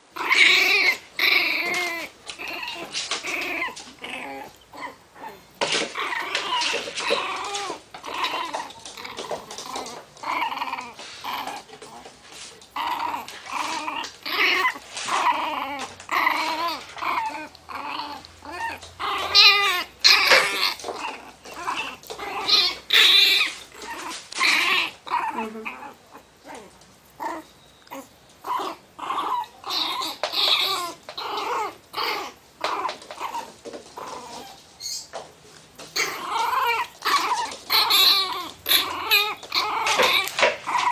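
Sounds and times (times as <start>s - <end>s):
dog growling and barking: 0.0s - 34.6s, 35.9s - 40.9s.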